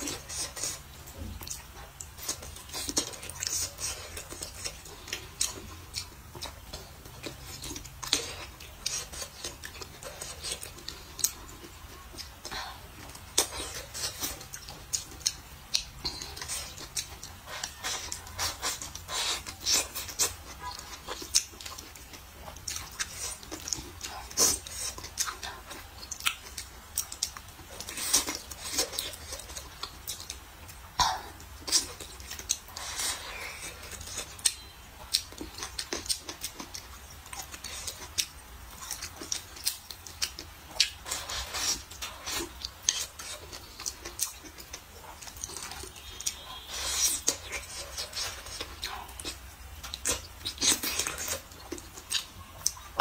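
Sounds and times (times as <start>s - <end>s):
wet chewing and lip smacks: 0.0s - 53.0s.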